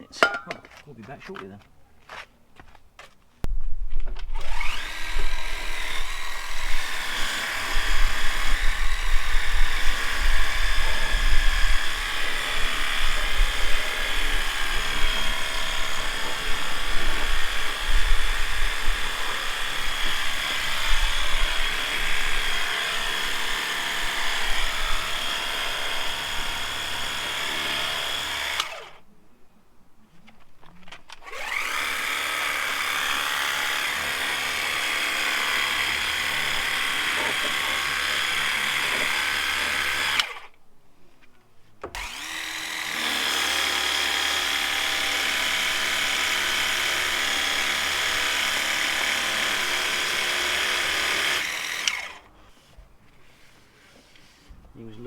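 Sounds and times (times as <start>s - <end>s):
power tool motor whine: 4.3s - 29.0s, 31.2s - 40.5s, 41.9s - 52.6s.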